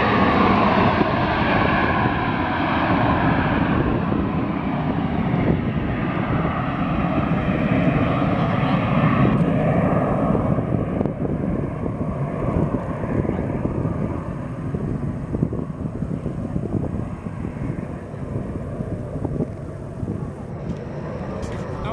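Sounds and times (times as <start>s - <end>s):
jet engines rushing: 0.0s - 21.9s
wind buffeting microphone: 0.0s - 21.9s.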